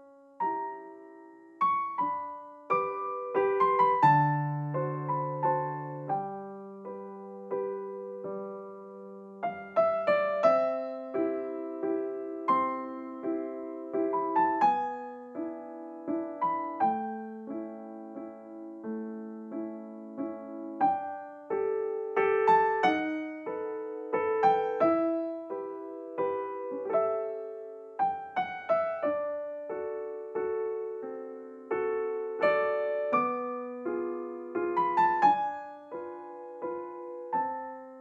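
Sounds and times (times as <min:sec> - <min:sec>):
slow solo piano piece: 0:00.0 - 0:38.0.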